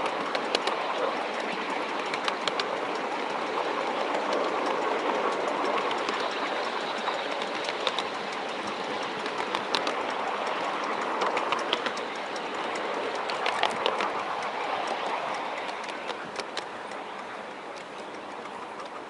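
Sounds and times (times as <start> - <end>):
miniature train running: 0.0 - 19.0
wheels clicking over rail joints: 0.0 - 19.0.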